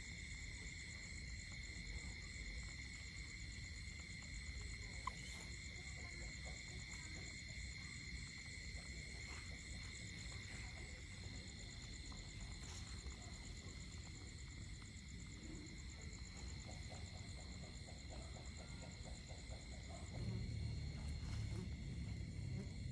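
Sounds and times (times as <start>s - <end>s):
insects and frogs trilling: 0.0s - 22.9s.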